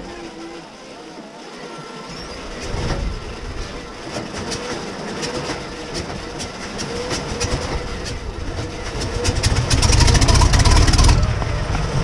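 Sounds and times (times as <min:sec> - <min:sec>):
low engine rumble: 0:00.0 - 0:12.0
engine starter whine with clatter: 0:01.5 - 0:12.0.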